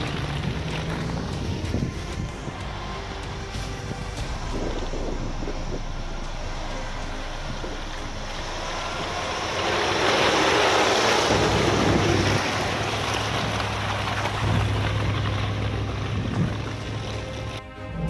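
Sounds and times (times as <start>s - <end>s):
wind rushing over microphone: 0.0s - 14.9s, 15.8s - 17.0s
engine low drone: 0.0s - 18.0s.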